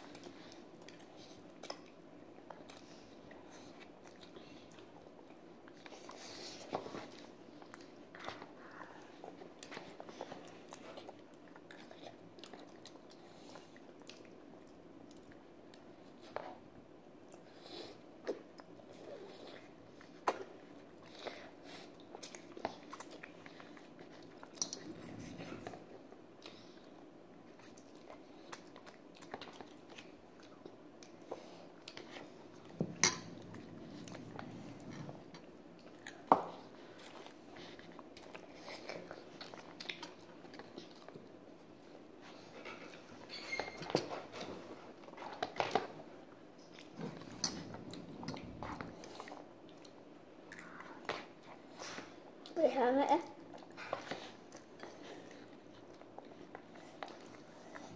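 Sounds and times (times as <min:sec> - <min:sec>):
quiet chewing: 0:00.0 - 0:57.9.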